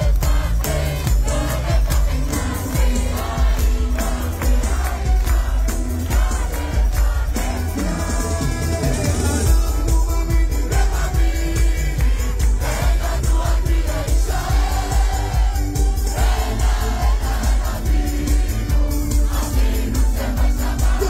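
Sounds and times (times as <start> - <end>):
amplified pop music with bass beat: 0.0 - 21.0
crowd singing along: 0.0 - 21.0
lead vocal singing: 0.0 - 21.0.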